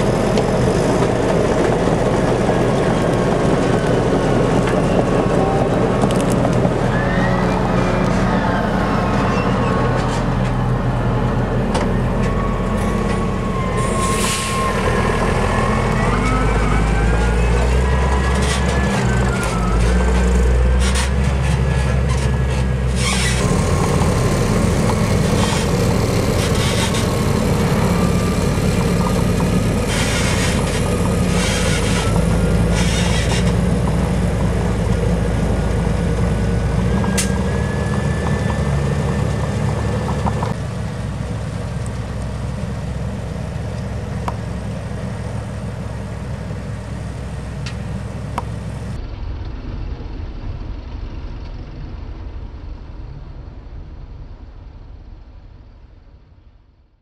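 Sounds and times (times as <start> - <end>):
tractor diesel engines running: 0.0 - 49.0
harvester conveyors rattling with whine: 0.0 - 53.4.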